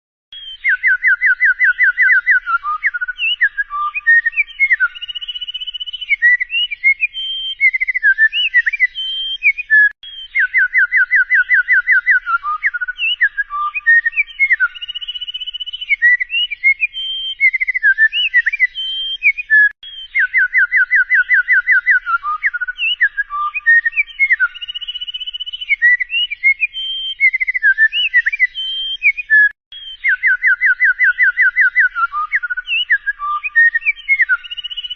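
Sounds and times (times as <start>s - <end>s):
songbird whistling song: 0.3s - 34.9s.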